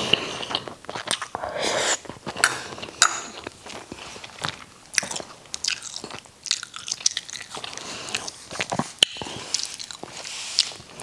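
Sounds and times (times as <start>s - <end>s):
chewing food: 0.0s - 1.4s, 2.0s - 11.0s.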